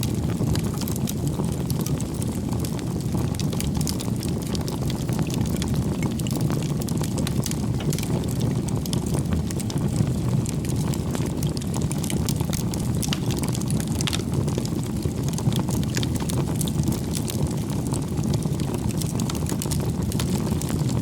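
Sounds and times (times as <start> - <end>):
burning logs crackling and popping: 0.0 - 21.0
low rumble of flame: 0.0 - 21.0.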